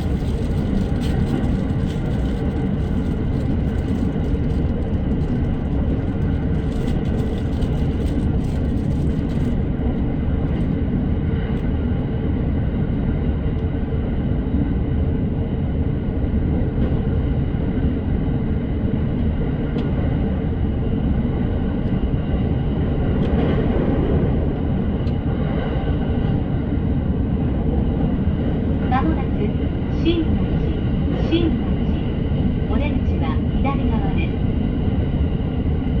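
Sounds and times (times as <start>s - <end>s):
wheels rumbling on rail: 0.0s - 36.0s.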